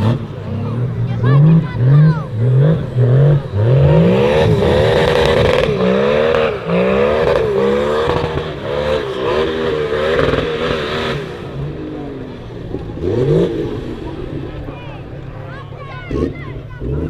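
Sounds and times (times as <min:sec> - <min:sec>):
engine revving hard: 0:00.0 - 0:17.0.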